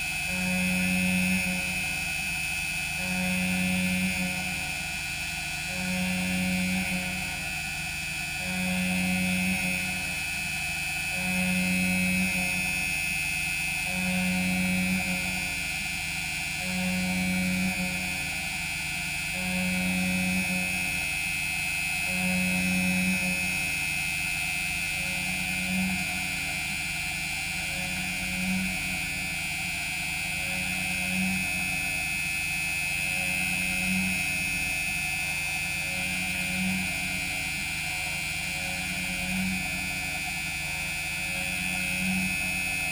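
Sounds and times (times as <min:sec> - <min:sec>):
lathe cutting whine: 0:00.0 - 0:42.9
low machine hum: 0:00.0 - 0:42.9.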